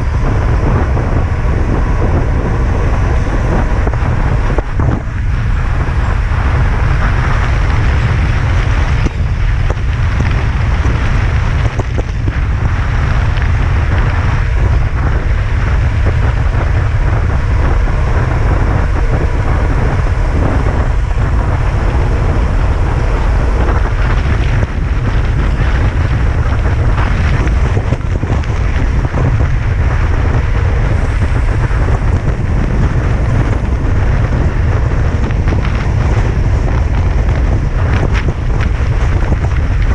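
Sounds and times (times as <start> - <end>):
tyre noise on asphalt: 0.0 - 39.9
wind buffeting microphone: 0.0 - 39.9.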